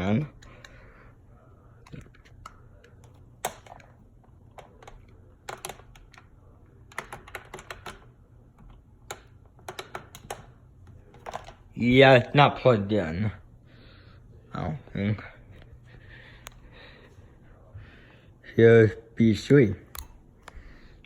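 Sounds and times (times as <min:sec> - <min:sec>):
ceiling fan humming: 0:00.0 - 0:21.0.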